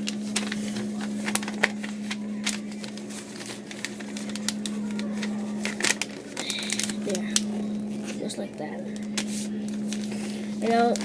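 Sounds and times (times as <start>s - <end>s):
paper folding and crinkling: 0.0s - 11.0s
steady low hum: 0.0s - 11.0s.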